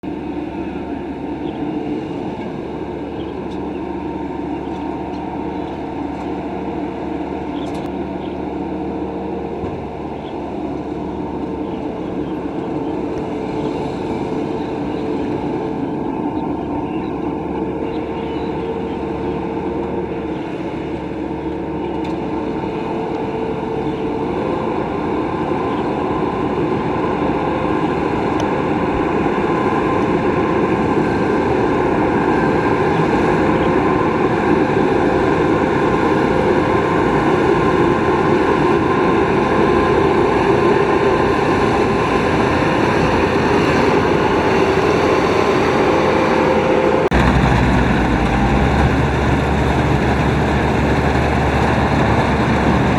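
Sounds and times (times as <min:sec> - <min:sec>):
combine harvester drone: 0:00.0 - 0:52.9.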